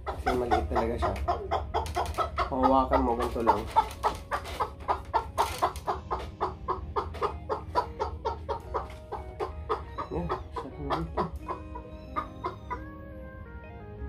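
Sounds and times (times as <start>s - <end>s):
chicken clucking: 0.0s - 13.0s.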